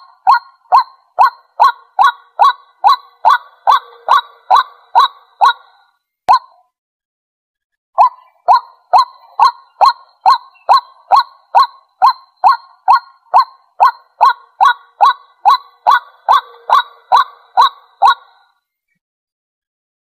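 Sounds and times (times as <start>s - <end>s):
waterhen calling: 0.0s - 6.5s, 8.0s - 18.4s.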